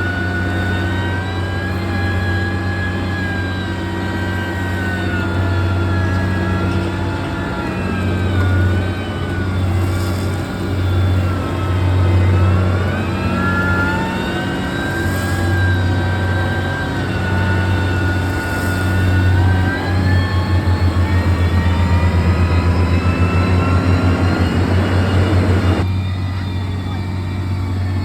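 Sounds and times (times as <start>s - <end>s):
diesel construction machine engine: 0.0s - 28.0s.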